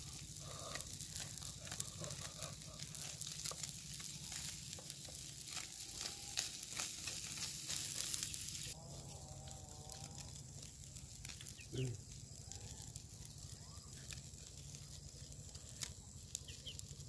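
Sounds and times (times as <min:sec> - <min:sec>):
pops and crackles: 0:00.0 - 0:08.8, 0:09.4 - 0:17.0
fish frying in oil: 0:00.0 - 0:17.0.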